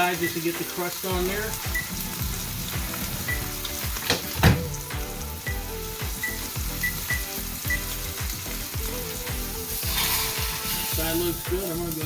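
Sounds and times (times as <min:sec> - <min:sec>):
background music: 0:00.0 - 0:12.0
steak sizzling in a skillet: 0:00.0 - 0:12.0.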